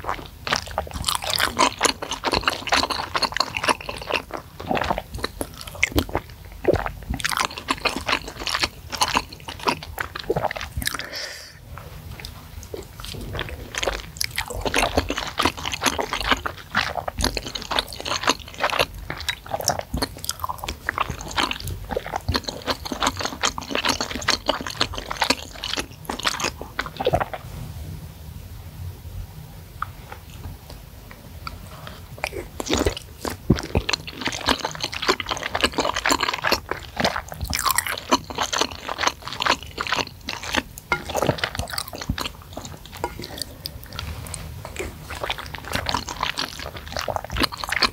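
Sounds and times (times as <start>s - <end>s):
wet chewing and smacking: 0.0s - 11.1s, 12.2s - 27.4s, 31.4s - 47.9s.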